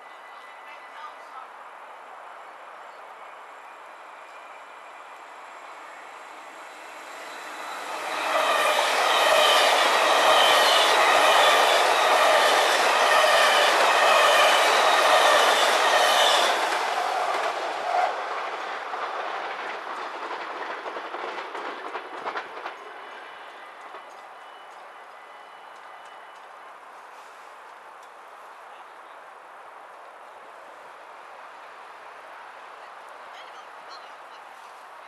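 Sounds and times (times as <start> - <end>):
electric train passing at speed: 0.0 - 33.3.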